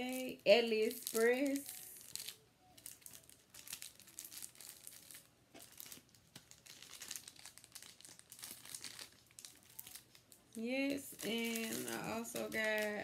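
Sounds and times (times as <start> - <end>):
plastic packets crinkling: 0.0 - 13.0.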